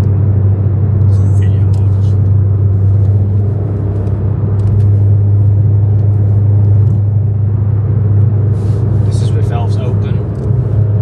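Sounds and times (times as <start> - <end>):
car engine drone in cabin: 0.0 - 11.0.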